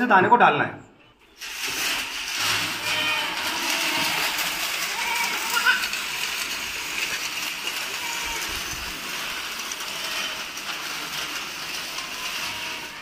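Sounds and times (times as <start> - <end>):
grain falling into metal troughs: 1.3 - 13.0.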